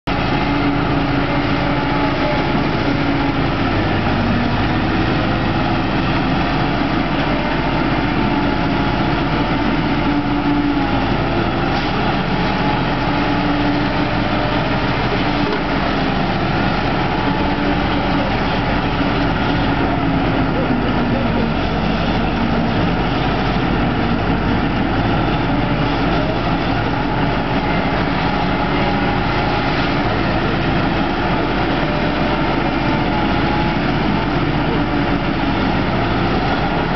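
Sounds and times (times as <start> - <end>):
wheel loader diesel engine: 0.0 - 36.9.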